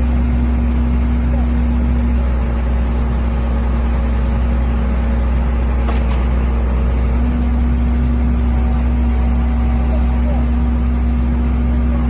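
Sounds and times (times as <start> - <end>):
engine and hydraulic unit humming: 0.0 - 12.0.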